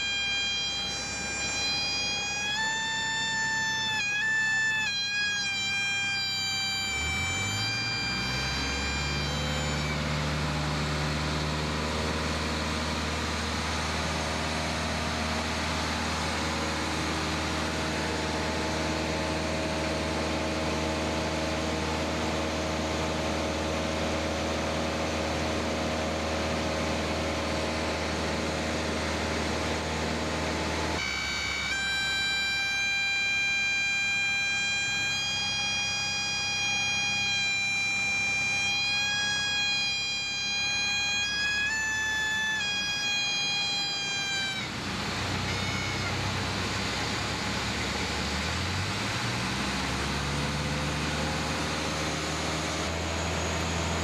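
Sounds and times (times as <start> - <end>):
propeller plane engine droning: 0.0 - 54.0
steady high-pitched tone: 0.0 - 54.0.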